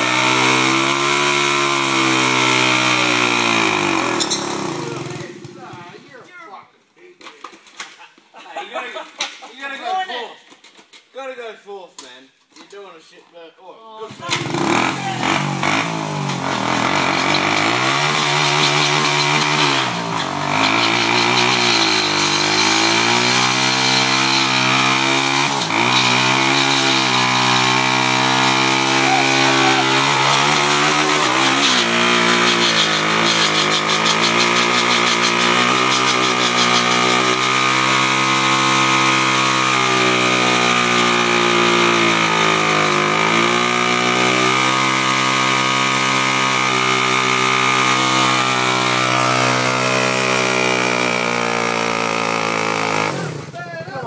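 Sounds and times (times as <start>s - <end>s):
motorbike engine revving high: 0.0s - 5.9s, 14.1s - 54.0s.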